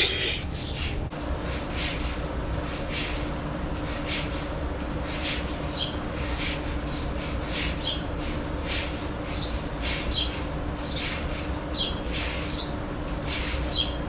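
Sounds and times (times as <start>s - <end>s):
milking machine pulsators hissing: 0.0s - 14.0s.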